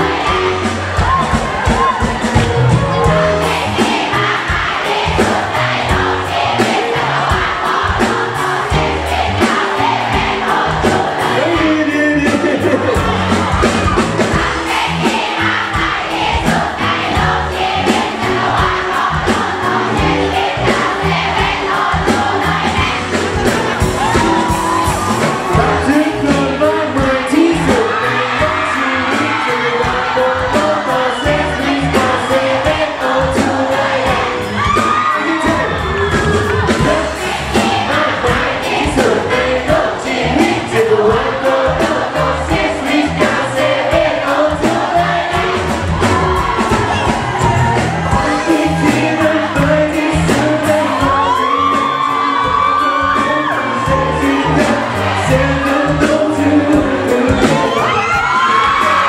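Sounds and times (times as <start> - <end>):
crowd singing and cheering: 0.0 - 59.0
drum beat: 0.0 - 59.0
live band playing pop: 0.0 - 59.0
lead singer singing: 3.0 - 59.0.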